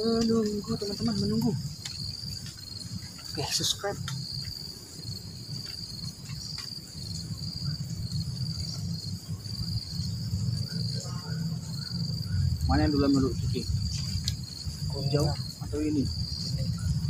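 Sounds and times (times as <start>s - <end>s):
insects chirring: 0.0s - 17.0s
low steady rumble: 0.0s - 17.0s.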